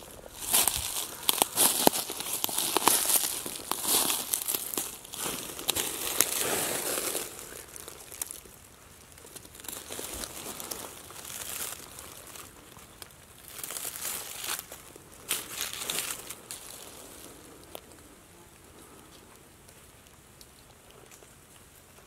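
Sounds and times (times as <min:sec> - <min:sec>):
dry leaves rustling and crunching: 0:00.0 - 0:18.0.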